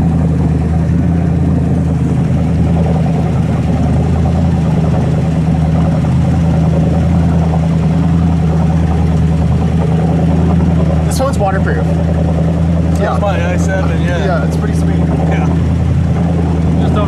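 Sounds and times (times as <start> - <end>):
jet boat engine running: 0.0 - 17.0.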